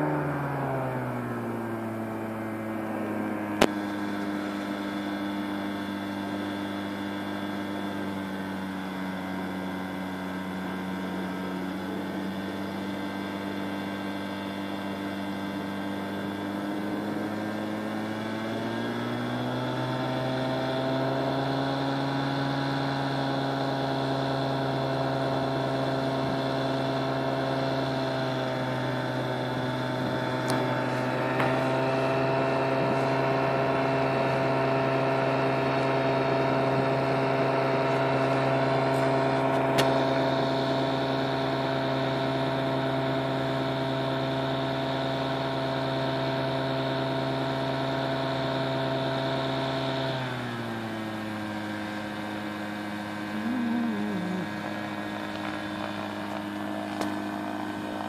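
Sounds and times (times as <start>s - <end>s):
two-stroke engine running: 0.0s - 58.0s.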